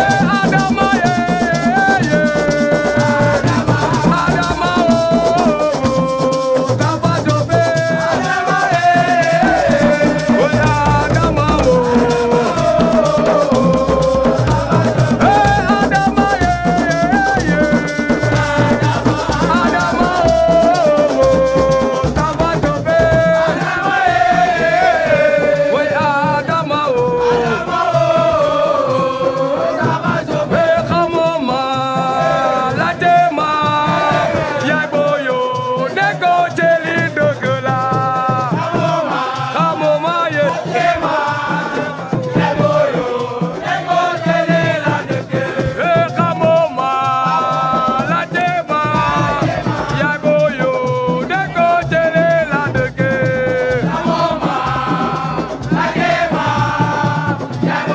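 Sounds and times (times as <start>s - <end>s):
person singing with band: 0.0s - 57.9s
shaker rattle: 0.0s - 57.9s.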